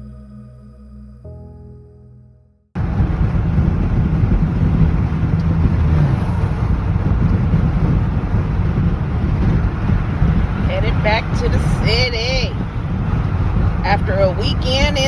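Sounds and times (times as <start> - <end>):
van driving on road: 2.8 - 15.0
wind noise: 2.8 - 15.0.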